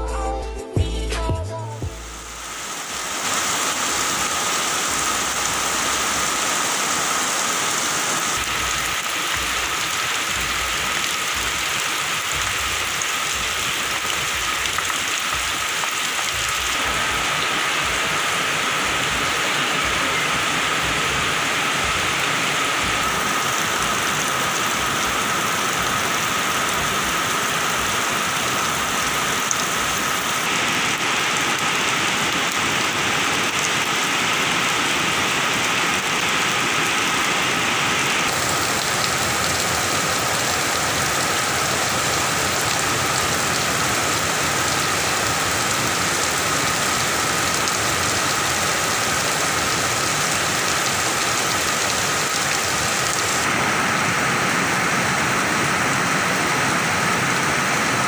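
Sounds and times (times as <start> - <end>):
heavy rain on foliage: 1.8 - 58.0.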